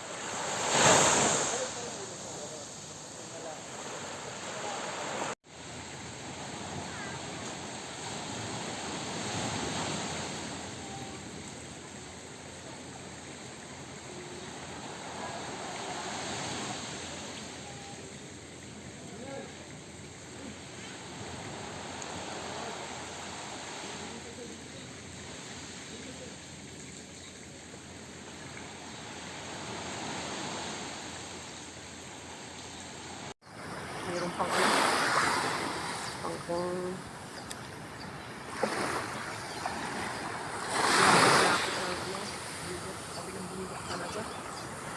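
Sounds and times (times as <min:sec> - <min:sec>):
ocean surf washing: 0:00.0 - 0:26.8, 0:28.2 - 0:44.9
waves breaking: 0:00.0 - 0:26.8, 0:28.1 - 0:44.9.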